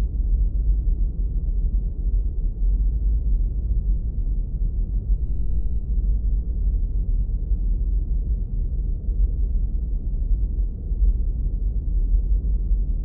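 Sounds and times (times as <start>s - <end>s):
low rumbling filtered noise: 2.0s - 13.0s.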